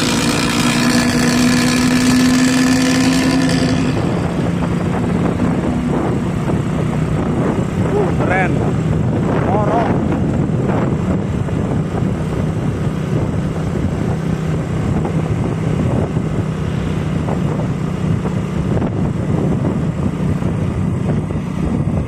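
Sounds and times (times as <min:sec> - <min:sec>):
bus exhaust low drone: 0:00.0 - 0:22.0.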